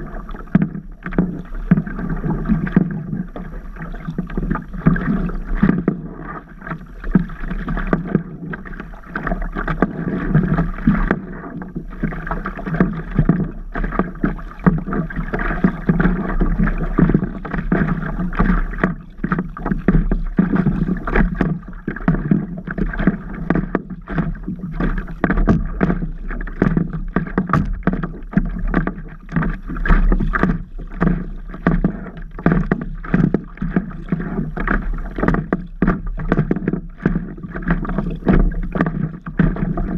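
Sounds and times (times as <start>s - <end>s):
water splashing against paddle board: 0.0s - 39.9s.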